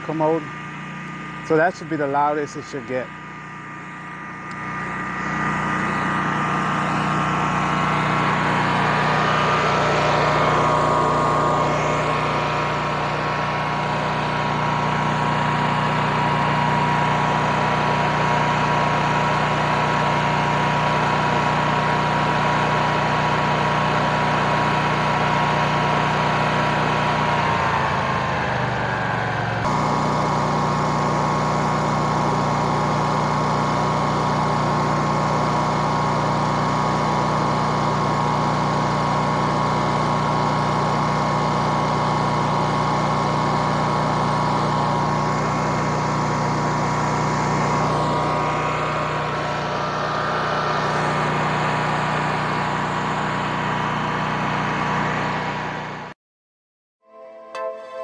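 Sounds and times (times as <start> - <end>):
generator engine running: 0.0 - 56.2.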